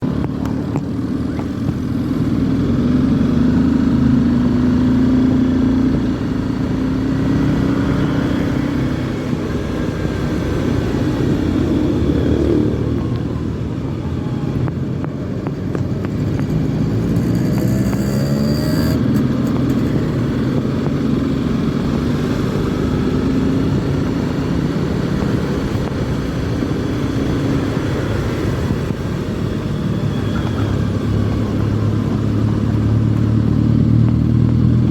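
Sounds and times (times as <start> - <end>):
motorcycle engine accelerating: 0.0 - 34.9
wind and road noise: 0.0 - 34.9.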